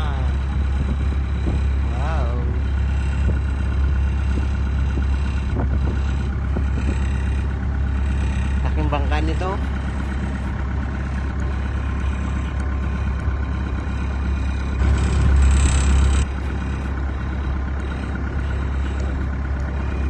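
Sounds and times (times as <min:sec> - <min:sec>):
boat motor droning: 0:00.0 - 0:20.0.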